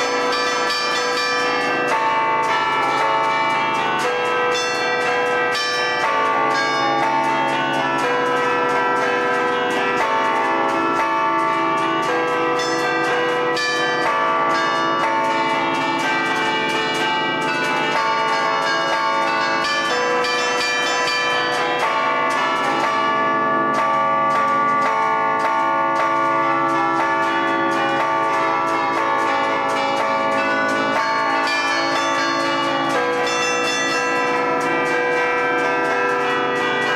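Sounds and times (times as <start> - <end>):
tower bells playing a lively tune: 0.0 - 36.9.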